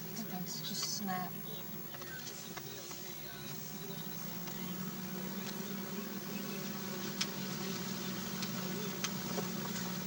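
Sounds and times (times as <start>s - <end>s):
vehicle engine hum inside cabin: 0.0s - 10.0s.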